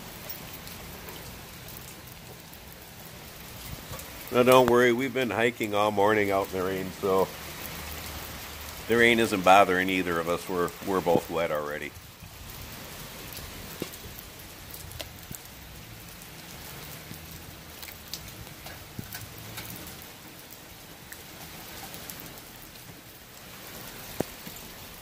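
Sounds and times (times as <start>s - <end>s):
rain falling on hard ground: 0.0s - 25.0s.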